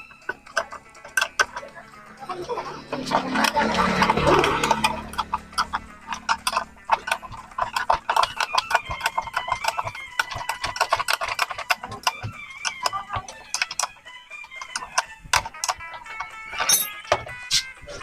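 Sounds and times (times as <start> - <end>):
hand tools clicking on metal: 0.0 - 2.3, 2.9 - 18.0.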